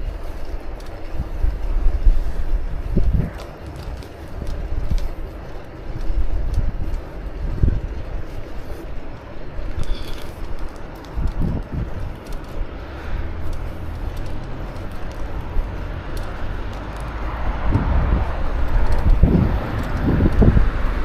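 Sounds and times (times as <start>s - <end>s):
wind on microphone: 0.0s - 9.0s, 9.6s - 21.0s
road traffic rumble: 0.0s - 21.0s.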